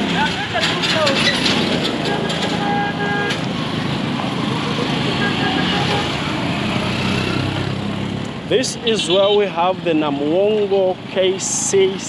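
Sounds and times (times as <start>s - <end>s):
vehicle engines: 0.0s - 12.0s.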